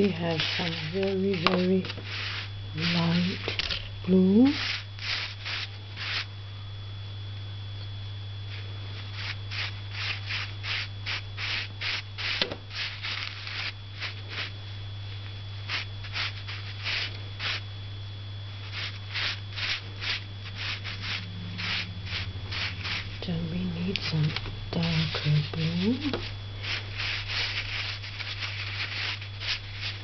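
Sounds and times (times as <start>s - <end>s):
paintbrush scrubbing on paper: 0.0s - 6.3s, 9.0s - 14.5s, 15.6s - 17.6s, 18.6s - 30.0s
steady low hum: 0.0s - 30.0s.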